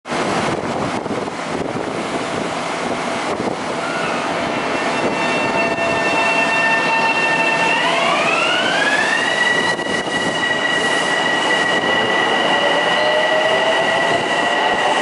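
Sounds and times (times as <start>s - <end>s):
train rushing noise: 0.1s - 15.0s.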